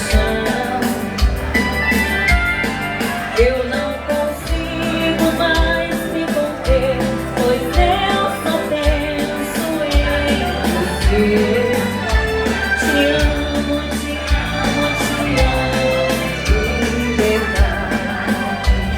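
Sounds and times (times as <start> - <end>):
person singing: 0.0 - 18.9
waltz band music: 0.0 - 18.9.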